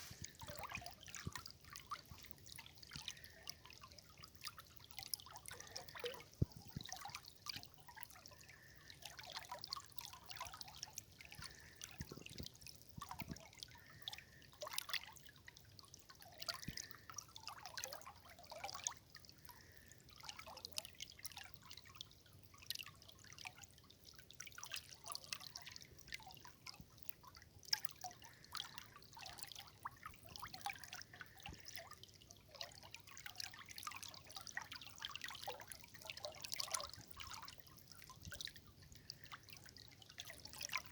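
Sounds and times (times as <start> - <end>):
river water trickling: 0.0 - 40.9
small water splashes: 0.0 - 40.9.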